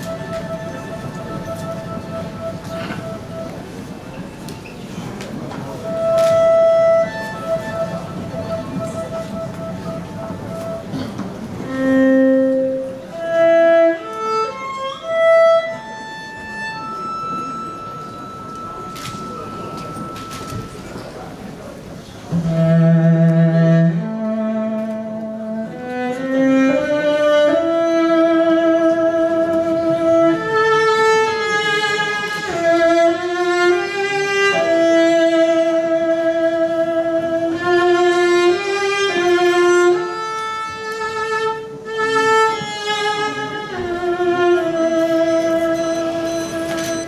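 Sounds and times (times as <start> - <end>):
violin and cello slow melody: 0.0 - 4.3, 5.2 - 47.0.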